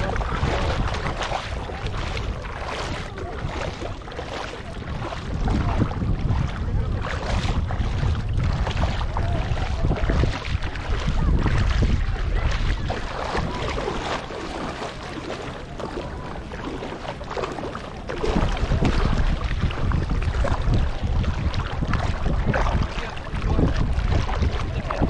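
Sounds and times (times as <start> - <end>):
water lapping and sloshing: 0.0 - 25.0
wind buffeting microphone: 0.0 - 25.0.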